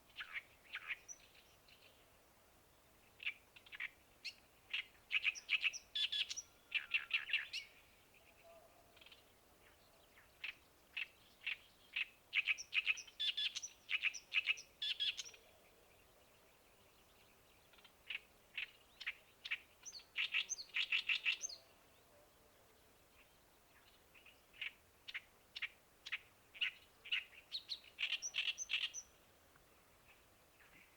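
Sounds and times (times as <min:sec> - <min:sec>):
faint outdoor background noise: 0:00.0 - 0:30.9
songbird singing: 0:00.0 - 0:30.9.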